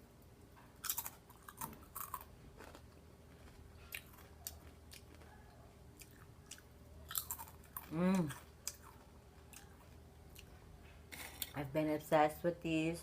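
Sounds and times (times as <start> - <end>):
chewing crunchy potato chips: 0.7 - 11.6.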